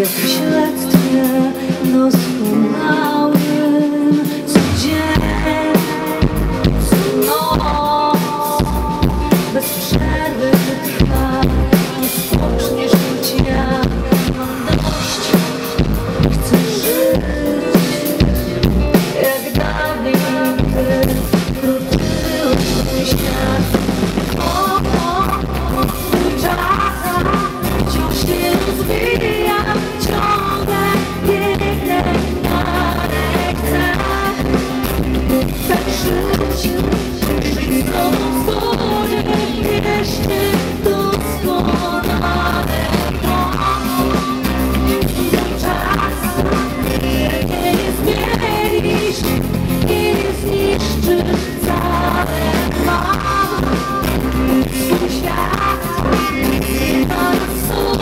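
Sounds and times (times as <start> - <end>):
live band playing pop-rock: 0.0 - 58.0
woman singing into microphone: 0.0 - 58.0.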